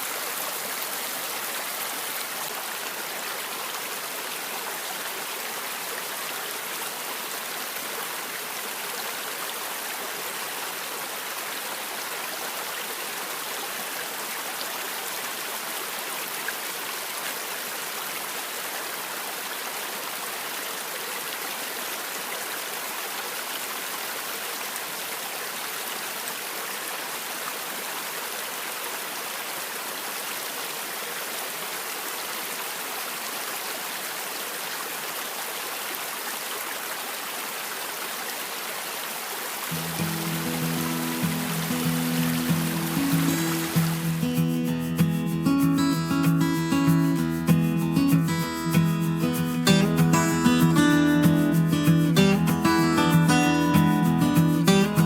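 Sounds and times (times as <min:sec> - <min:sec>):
creek water rushing over rocks: 0:00.0 - 0:55.0.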